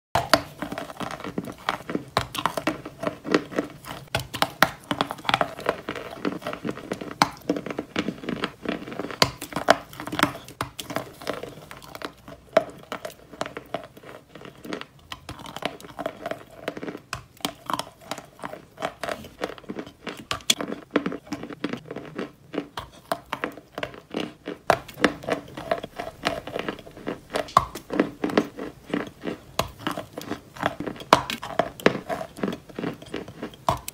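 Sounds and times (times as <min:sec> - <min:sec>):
person crunching chalk: 0:00.2 - 0:33.9.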